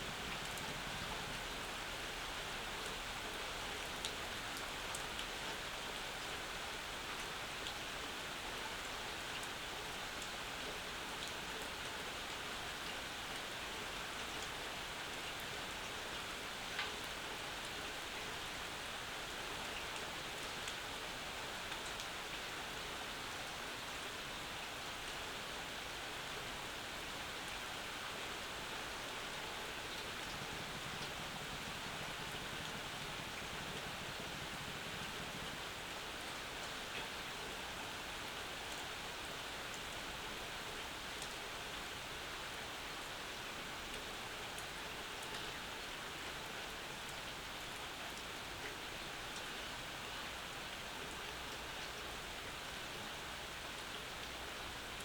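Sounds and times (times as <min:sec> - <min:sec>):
rain falling on a porch: 0:00.0 - 0:55.0.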